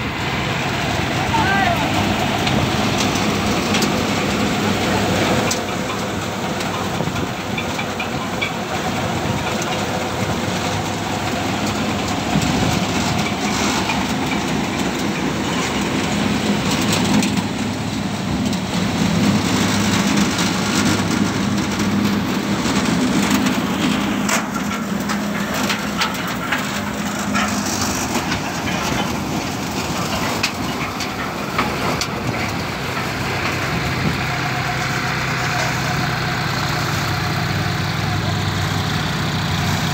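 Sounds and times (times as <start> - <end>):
thresher mechanical drone: 0.0 - 39.9.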